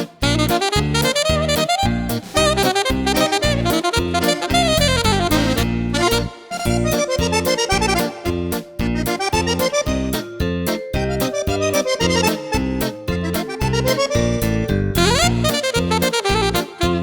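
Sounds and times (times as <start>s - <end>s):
fast melody over bouncing beat: 0.0s - 17.0s.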